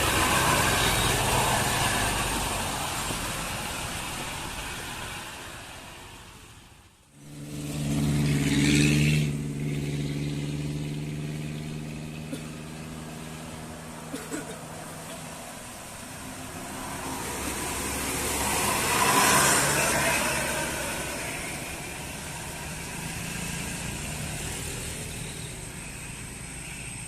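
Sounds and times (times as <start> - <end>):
bus diesel engine passing: 0.0 - 27.0
vehicle passing: 0.0 - 27.0.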